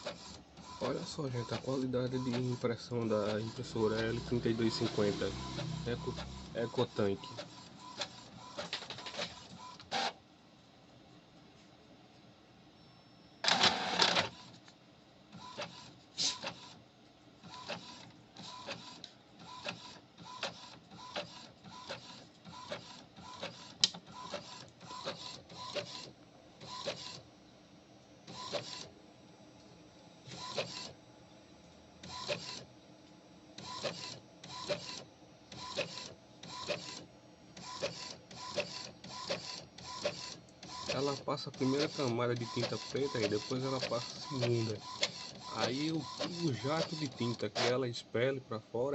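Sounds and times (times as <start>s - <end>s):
printer carriage whirring: 0.0s - 10.2s, 13.3s - 48.9s.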